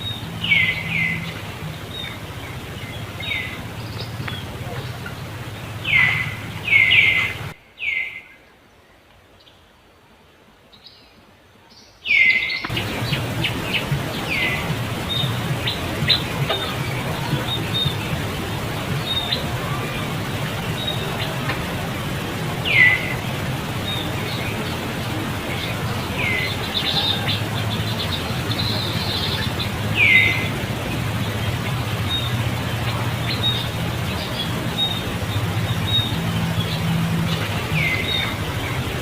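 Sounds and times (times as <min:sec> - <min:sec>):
steady low hum: 0:00.0 - 0:07.6, 0:12.7 - 0:39.0.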